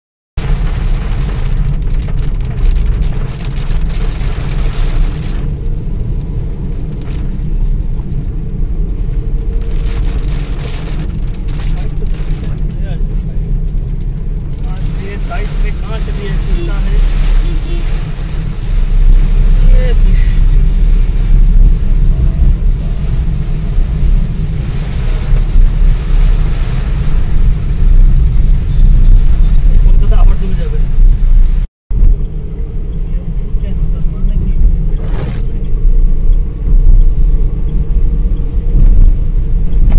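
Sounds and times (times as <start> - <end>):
rain ticking on windscreen: 0.4 - 39.9
tyres and engine rumble: 0.4 - 39.9.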